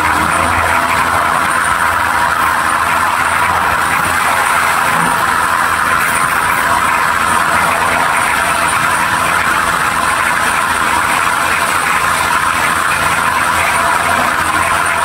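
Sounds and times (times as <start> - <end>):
train rushing noise: 0.0 - 15.0.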